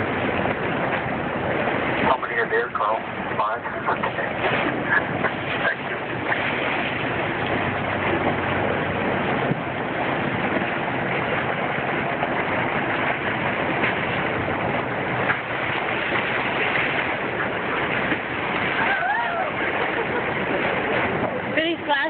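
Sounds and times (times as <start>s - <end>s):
water rushing along boat bow: 0.0s - 22.0s.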